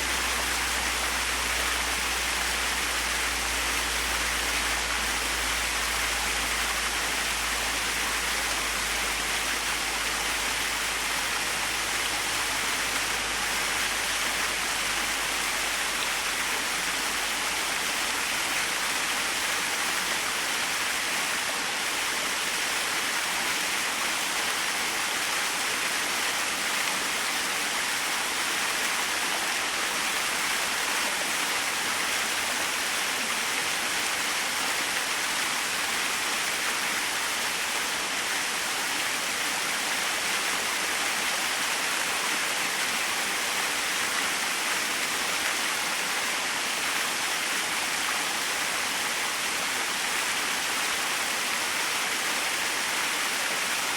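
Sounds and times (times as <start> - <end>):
small waterfall splashing: 0.0 - 53.9.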